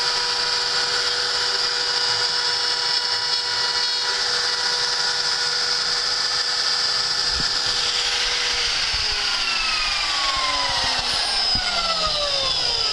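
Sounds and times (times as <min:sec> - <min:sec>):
spindle motor whining: 0:00.0 - 0:12.9.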